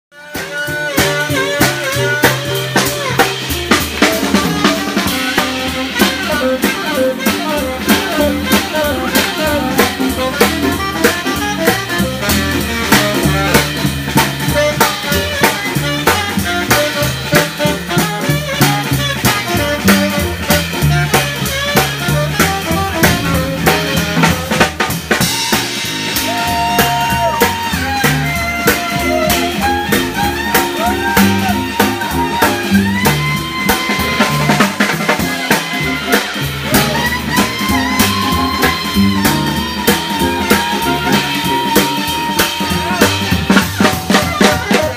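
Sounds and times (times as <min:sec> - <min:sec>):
drum kit with cymbals: 0:00.1 - 0:44.9
saxophone melody: 0:00.1 - 0:44.9
upright bass: 0:00.3 - 0:44.9.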